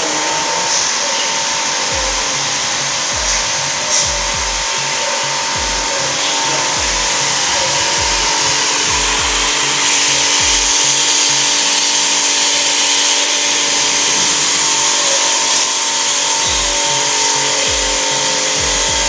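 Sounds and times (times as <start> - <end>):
pressure washer motor whine: 0.0 - 19.0
water jet hissing: 0.0 - 19.0.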